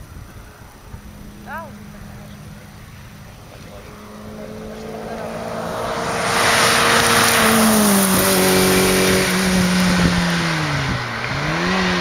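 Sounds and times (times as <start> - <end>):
road and wind noise: 0.0 - 12.0
rally car engine passing at speed: 0.6 - 12.0.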